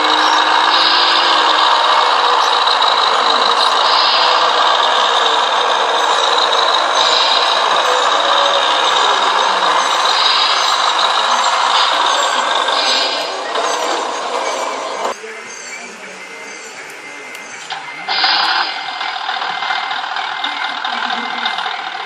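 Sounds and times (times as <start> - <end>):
toy truck motor whirring: 0.0 - 14.8, 17.7 - 22.0.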